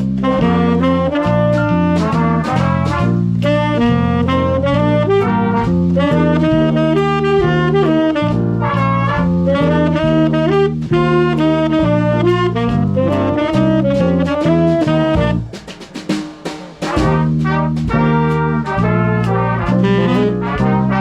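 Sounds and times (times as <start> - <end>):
saxophones and brass melody: 0.0 - 21.0
stepping bass line: 0.0 - 21.0
swing band playing: 0.0 - 21.0.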